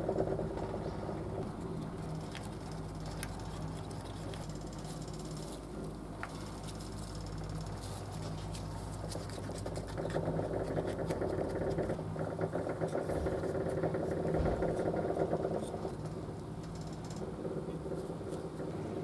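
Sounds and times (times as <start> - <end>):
rough machine noise: 0.0 - 19.0.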